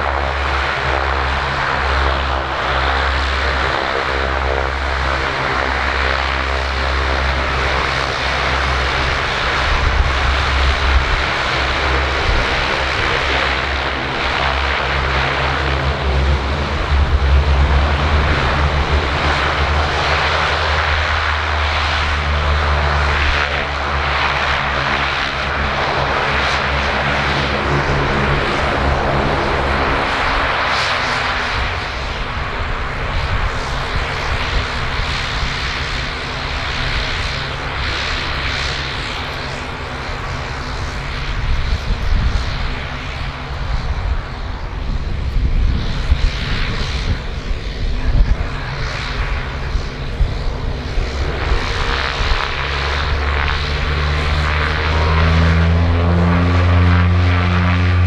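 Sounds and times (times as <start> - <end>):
turboprop engines running: 0.0 - 58.0.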